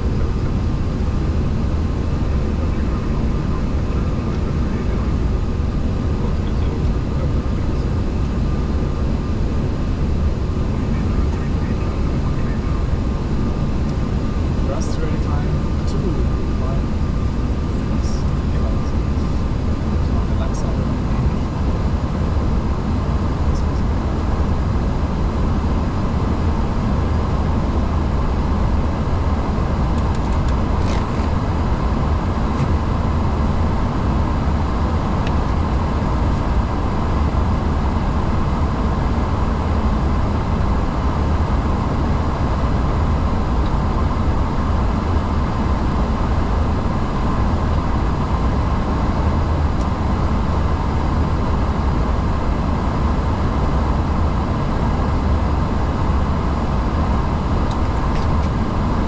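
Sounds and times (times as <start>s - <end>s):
aircraft cockpit rumble and air rush: 0.0s - 59.0s.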